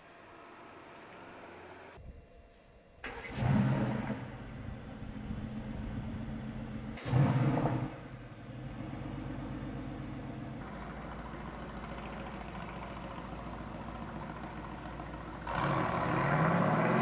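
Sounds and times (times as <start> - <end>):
car engine idling: 3.0 - 17.0
car engine starting and revving: 3.0 - 17.0.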